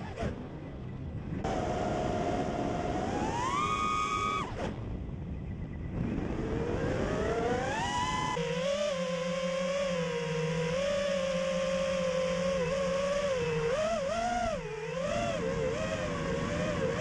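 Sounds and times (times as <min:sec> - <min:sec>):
quadcopter motors whining: 0:01.4 - 0:05.0, 0:05.6 - 0:17.0.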